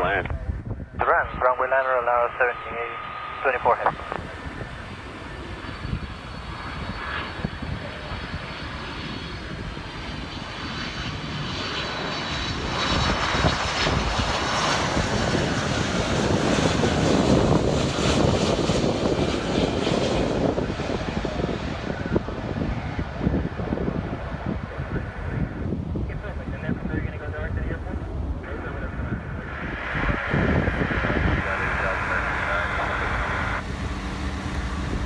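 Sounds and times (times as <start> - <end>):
jet airliner engine roar: 0.0 - 35.0.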